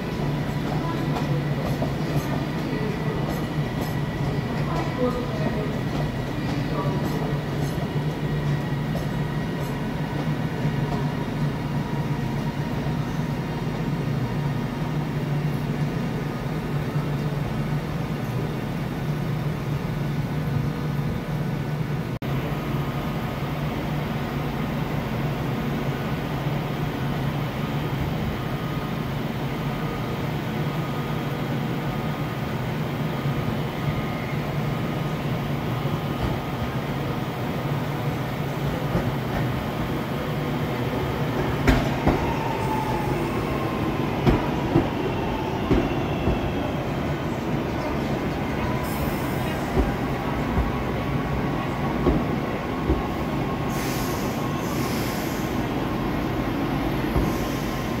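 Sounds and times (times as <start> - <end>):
train humming: 0.0 - 58.0.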